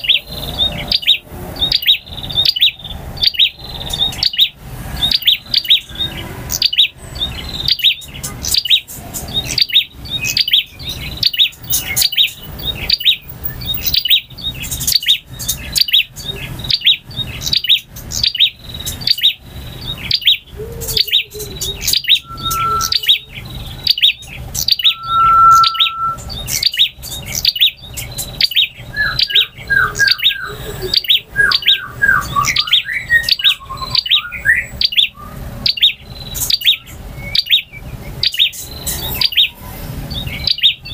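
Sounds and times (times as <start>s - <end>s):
bird chirping: 0.0s - 40.9s
whistled bird notes: 0.0s - 40.9s.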